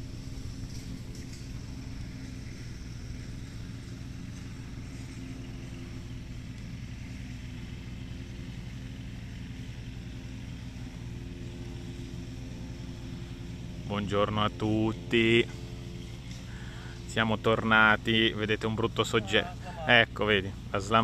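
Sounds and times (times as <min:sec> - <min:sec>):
lawn mower engine humming: 0:00.0 - 0:21.0.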